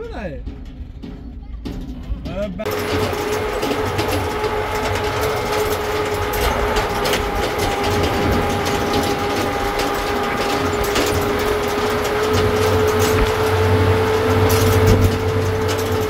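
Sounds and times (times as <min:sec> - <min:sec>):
engine and road rumble: 0:00.0 - 0:16.0
rattling clicks from car body: 0:00.5 - 0:16.0
steady whine: 0:02.6 - 0:16.0.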